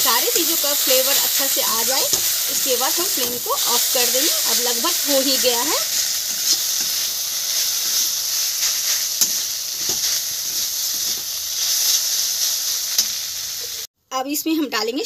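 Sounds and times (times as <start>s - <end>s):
vegetables sizzling in hot oil: 0.0s - 13.9s
spatula scraping pan: 0.1s - 13.3s.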